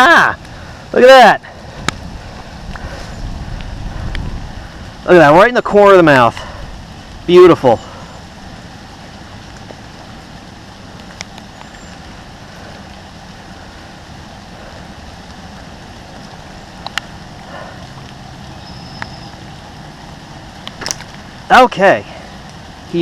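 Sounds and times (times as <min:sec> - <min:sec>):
distant road traffic hum: 0:00.0 - 0:23.0.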